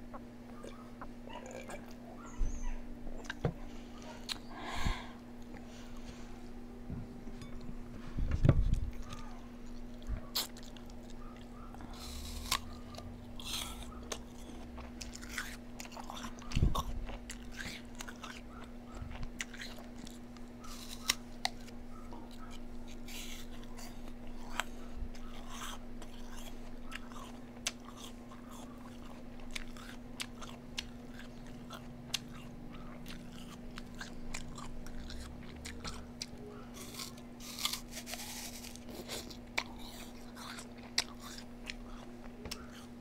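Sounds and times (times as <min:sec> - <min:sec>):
person chewing food: 0:00.0 - 0:06.4, 0:08.5 - 0:43.0
steady low hum: 0:00.0 - 0:43.0.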